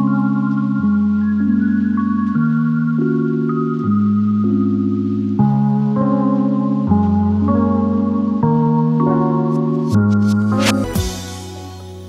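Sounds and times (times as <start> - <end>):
soft ambient keyboard chords: 0.0 - 12.0.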